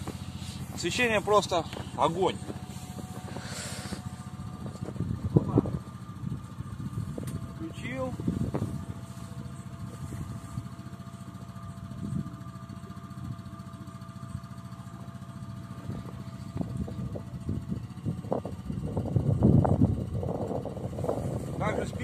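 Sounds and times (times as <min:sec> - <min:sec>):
trike engine idling: 0:00.0 - 0:22.0.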